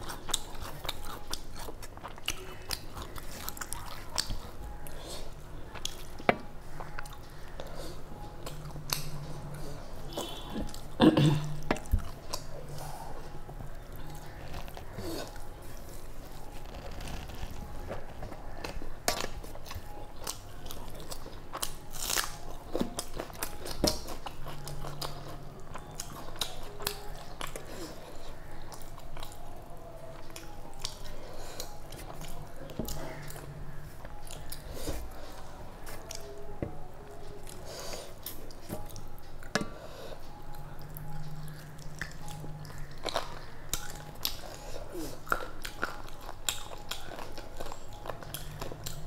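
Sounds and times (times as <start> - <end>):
person chewing with wet mouth sounds: 0.0 - 49.0.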